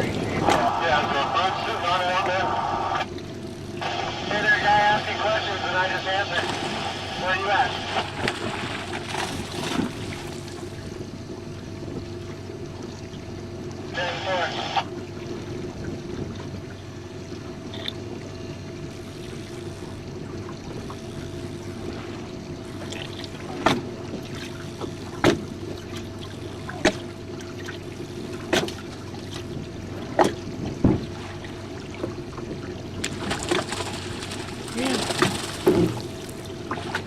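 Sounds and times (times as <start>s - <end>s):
boat motor hum: 0.0s - 37.0s
water slapping against hull: 0.0s - 37.0s
water trickling and lapping: 0.0s - 37.0s.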